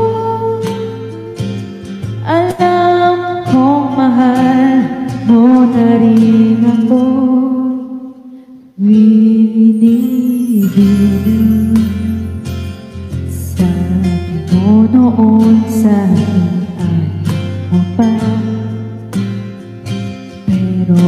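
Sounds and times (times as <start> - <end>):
woman singing with vibrato: 0.0 - 19.0, 20.5 - 21.0
guitar accompaniment: 0.0 - 21.0.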